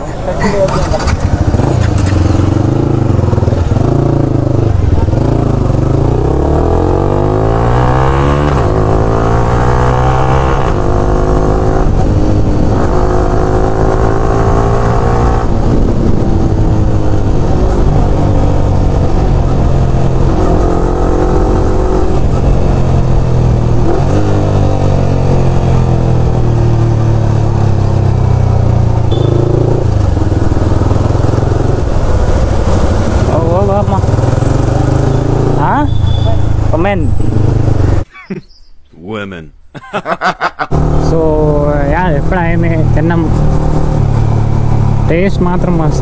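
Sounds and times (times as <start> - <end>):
motorcycle engine shifting gears: 0.4 - 38.1.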